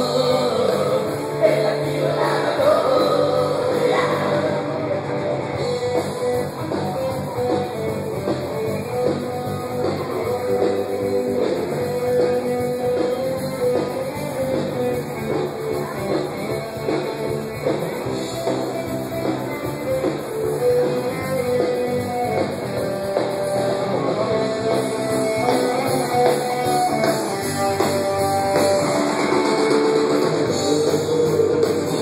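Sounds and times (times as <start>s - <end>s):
loud rock music with guitar: 0.0s - 32.0s.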